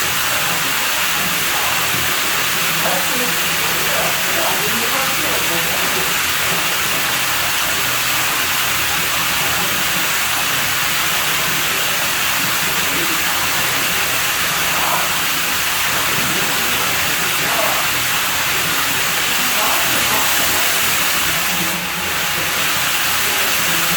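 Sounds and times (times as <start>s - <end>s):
water running: 0.0s - 23.9s.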